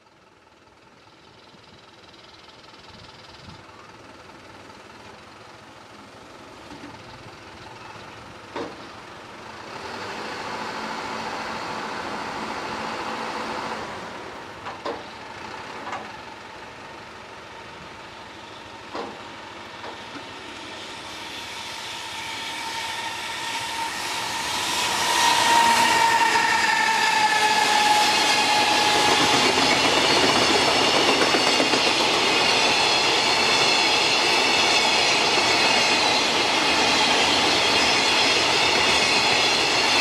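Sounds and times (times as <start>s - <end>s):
freight train rail noise: 0.0s - 40.0s
locomotive whine: 0.1s - 40.0s.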